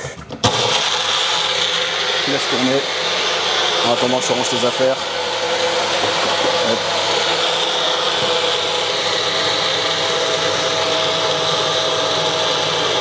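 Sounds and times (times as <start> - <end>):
blender running: 0.0 - 13.0.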